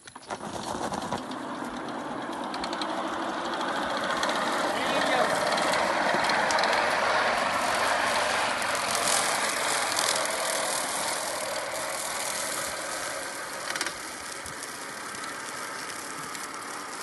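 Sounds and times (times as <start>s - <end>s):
horse-drawn mower clattering: 0.0s - 17.0s.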